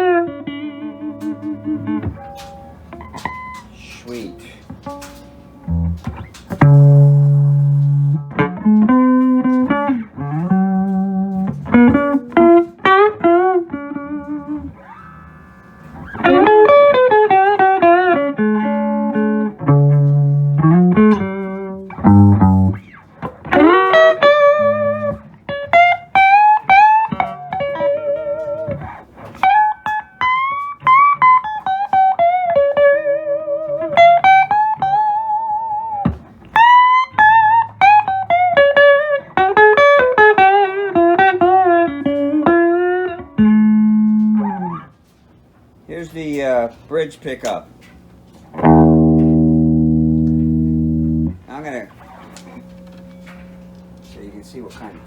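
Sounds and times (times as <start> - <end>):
electric guitar lead lines: 0.0 - 45.2, 46.3 - 55.0.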